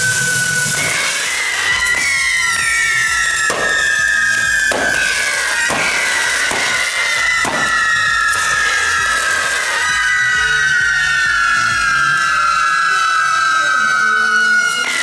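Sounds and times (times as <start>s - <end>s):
firework cracks: 0.0s - 15.0s
firework wheel whistling screech: 0.0s - 15.0s.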